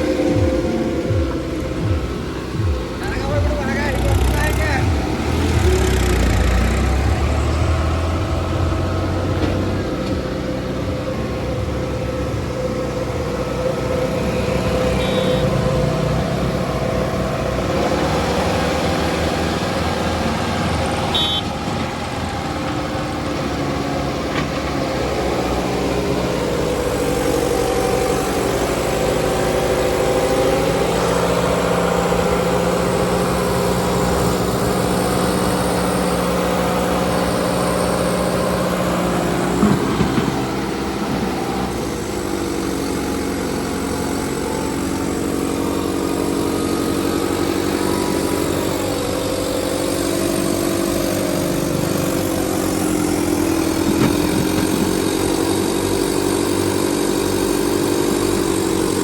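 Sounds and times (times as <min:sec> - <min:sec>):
tractor engines running hard: 0:00.0 - 0:59.0.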